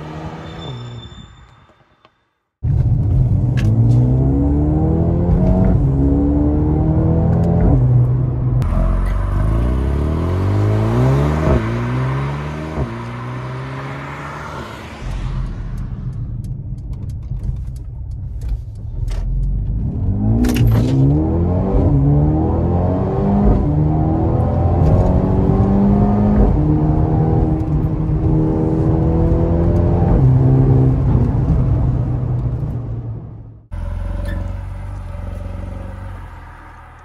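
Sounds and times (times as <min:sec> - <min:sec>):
car engine accelerating: 0:02.6 - 0:37.0.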